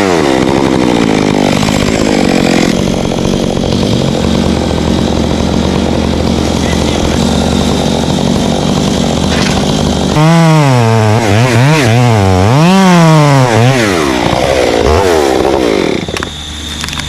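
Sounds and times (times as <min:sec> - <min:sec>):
chainsaw engine revving: 0:00.0 - 0:16.3.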